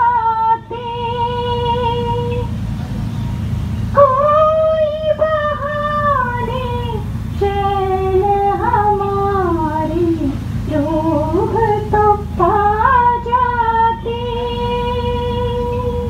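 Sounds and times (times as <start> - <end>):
woman singing unaccompanied: 0.0 - 2.6, 3.9 - 16.0
steady low rumble: 0.0 - 16.0.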